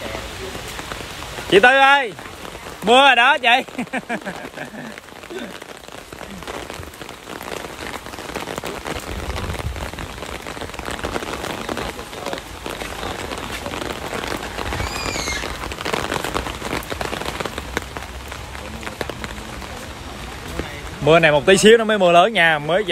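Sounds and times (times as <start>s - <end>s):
rain pattering on umbrella: 0.0s - 22.9s.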